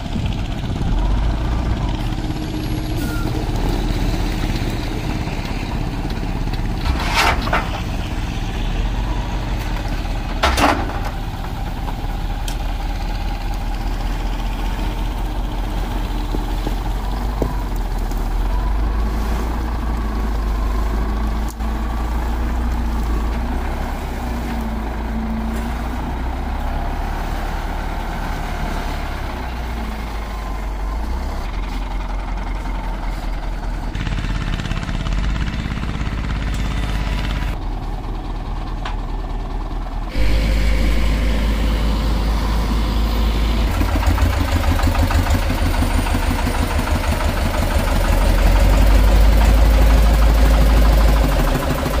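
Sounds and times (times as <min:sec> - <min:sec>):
diesel engines running: 0:00.0 - 0:52.0
walking tractor diesel thumping: 0:00.0 - 0:52.0.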